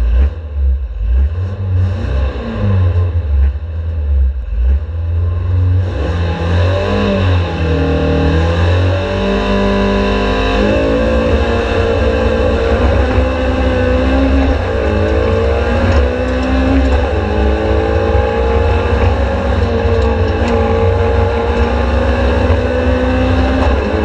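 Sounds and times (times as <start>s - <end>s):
race car engine idling and revving: 0.0s - 24.0s.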